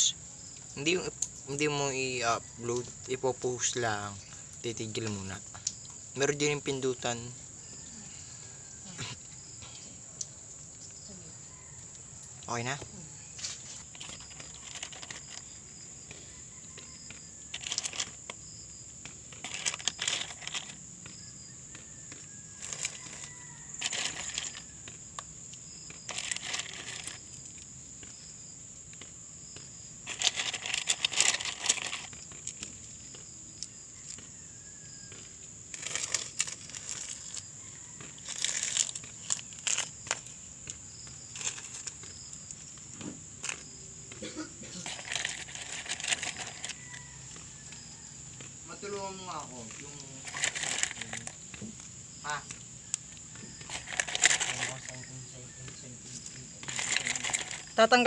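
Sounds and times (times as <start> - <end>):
plastic pots and leaves rustling: 0.0 - 58.0.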